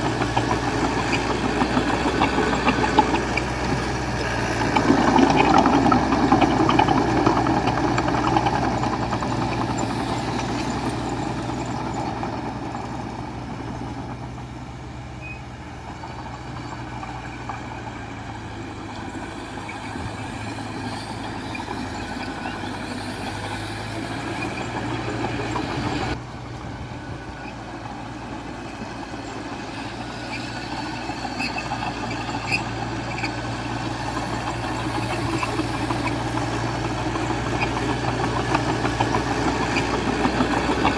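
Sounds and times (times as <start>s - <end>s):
diesel earthmoving machinery running: 0.0s - 40.9s.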